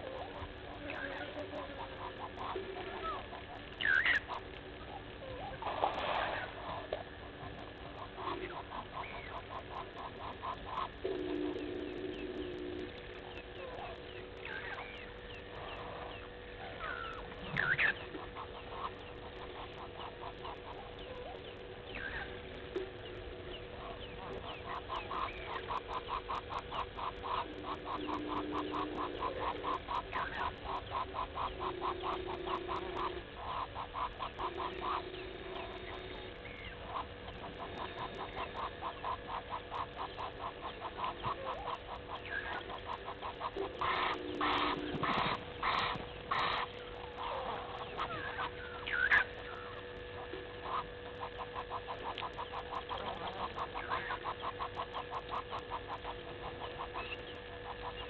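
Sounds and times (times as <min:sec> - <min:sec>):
faint steady hum: 0:00.0 - 0:58.0
rapid repeated animal calls: 0:00.0 - 0:58.0.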